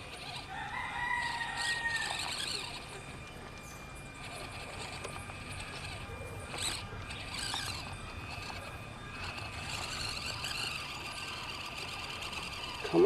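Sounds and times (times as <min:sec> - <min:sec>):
small electric motor and gears whirring: 0:00.0 - 0:13.0.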